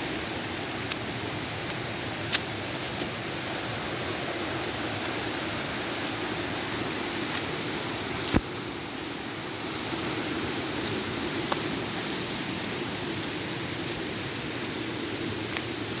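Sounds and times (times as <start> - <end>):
river flowing over rocks: 0.0 - 16.0.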